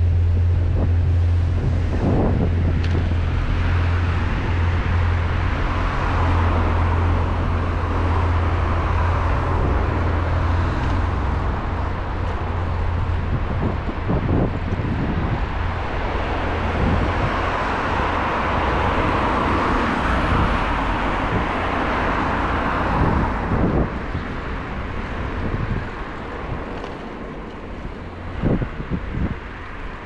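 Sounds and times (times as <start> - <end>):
steady low traffic rumble: 0.0 - 30.0
vehicle passing: 0.0 - 30.0.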